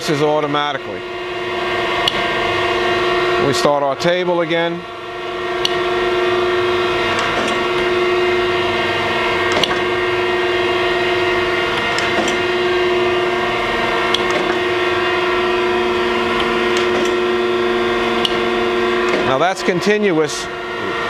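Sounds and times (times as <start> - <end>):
surface grinder humming: 0.0 - 21.0.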